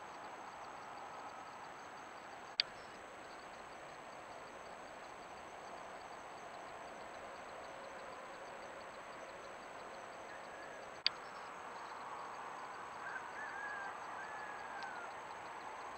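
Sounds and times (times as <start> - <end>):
night insects chorus: 0.0 - 15.9.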